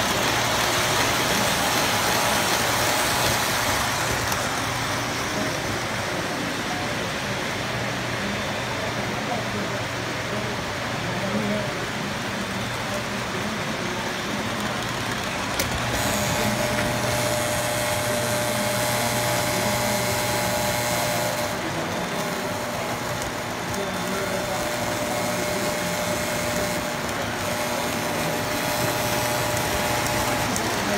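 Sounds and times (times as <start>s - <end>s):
model train rolling rumble: 0.0s - 30.9s.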